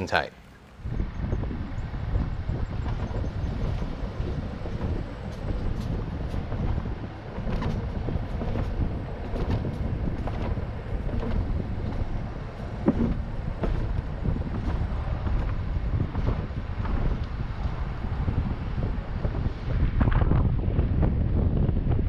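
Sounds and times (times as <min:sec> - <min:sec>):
low road rumble: 0:00.0 - 0:22.0
wind buffeting microphone: 0:00.0 - 0:22.0.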